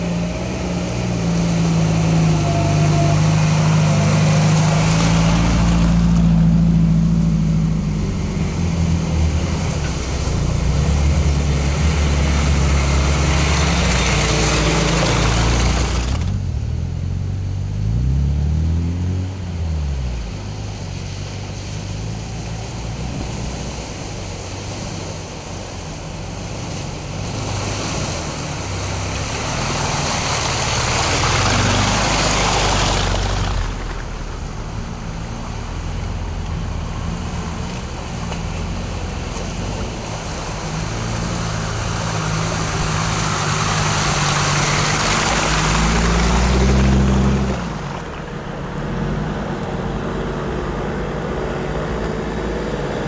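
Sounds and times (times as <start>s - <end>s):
off-road vehicle engine revving: 0.0s - 53.0s
water splashing and rushing: 0.0s - 53.0s.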